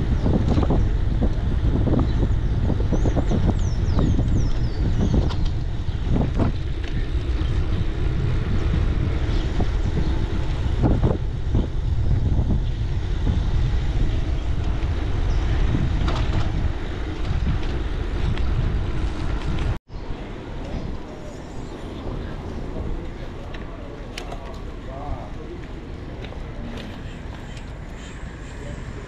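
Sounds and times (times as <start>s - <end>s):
tyre and road rumble: 0.0s - 29.0s
wind buffeting microphone: 0.0s - 29.0s.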